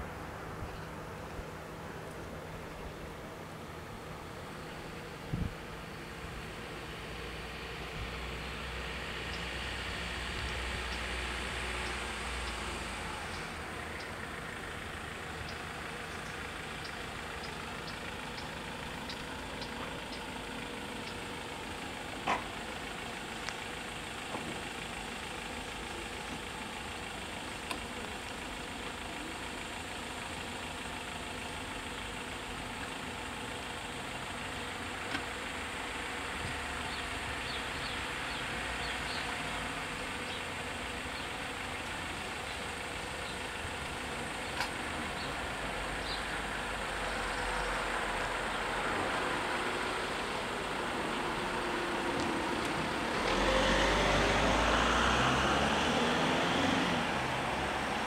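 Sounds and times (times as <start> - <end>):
truck diesel engine idling: 0.0 - 55.7.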